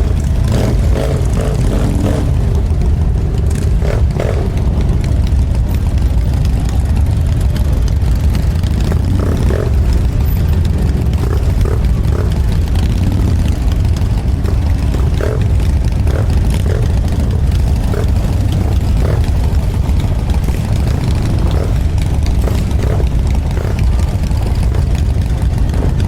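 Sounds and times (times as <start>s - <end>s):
motorcycle engine rumble: 0.0s - 26.0s.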